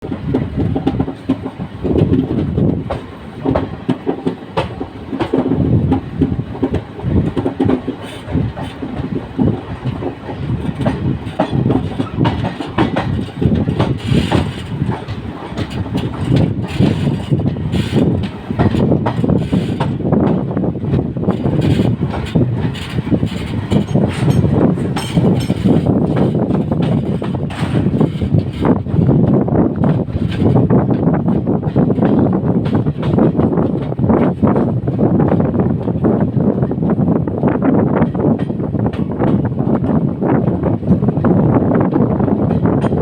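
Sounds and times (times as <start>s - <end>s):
train rumble: 0.0s - 43.0s
wheel clatter over rail joints: 0.0s - 43.0s.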